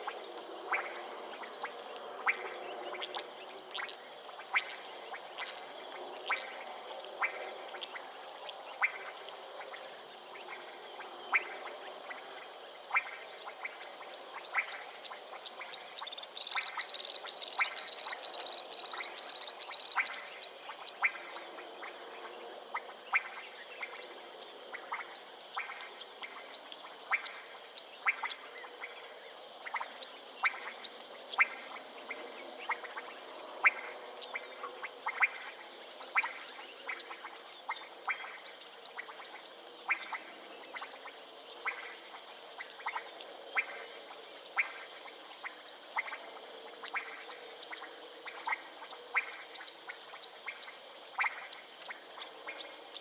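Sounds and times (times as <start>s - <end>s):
frogs clicking calls: 0.0s - 53.0s
high-pitched frog chorus: 0.0s - 53.0s.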